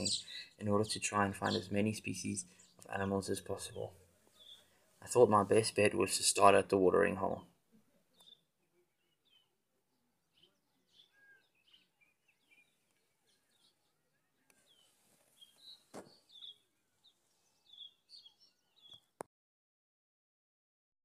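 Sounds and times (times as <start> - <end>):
small birds chirping: 0.0 - 5.8, 7.3 - 19.2.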